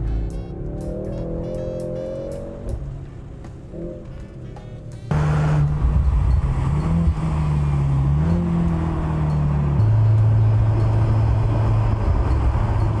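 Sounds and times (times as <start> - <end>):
car engine running at speed: 0.0 - 13.0.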